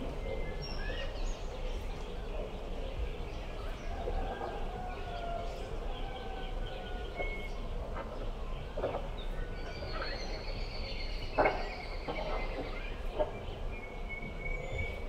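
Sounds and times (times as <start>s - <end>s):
birds calling and chirping: 0.0s - 15.0s.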